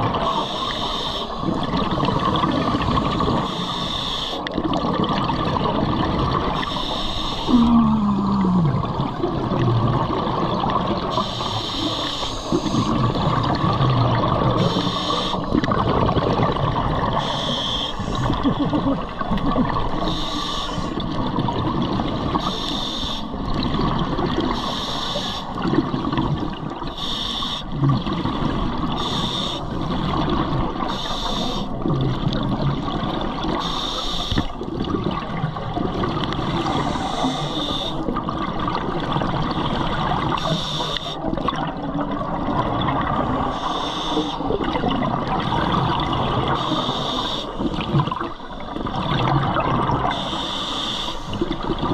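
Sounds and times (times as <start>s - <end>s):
exhaled bubbles rushing: 0.0s - 0.4s, 1.3s - 3.7s, 4.4s - 6.8s, 7.4s - 20.2s, 20.8s - 22.6s, 23.3s - 24.6s, 25.5s - 26.9s, 27.7s - 31.0s, 31.6s - 33.7s, 34.4s - 43.6s, 44.4s - 50.4s, 51.3s - 51.9s
scuba regulator hiss and gurgle: 0.1s - 4.9s, 6.4s - 9.1s, 10.9s - 21.2s, 21.8s - 26.2s, 26.8s - 32.4s, 33.3s - 34.6s, 36.0s - 38.2s, 39.0s - 41.4s, 42.1s - 51.9s.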